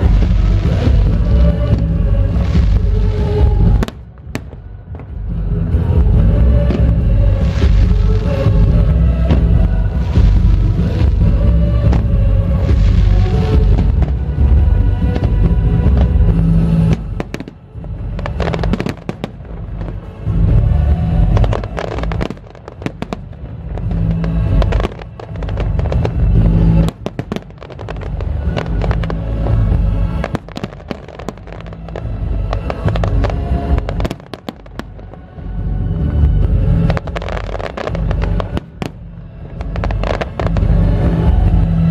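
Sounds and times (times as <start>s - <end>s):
deep rumble: 0.0s - 41.9s
fireworks bangs and crackles: 0.0s - 41.9s
music soundtrack: 0.0s - 41.9s.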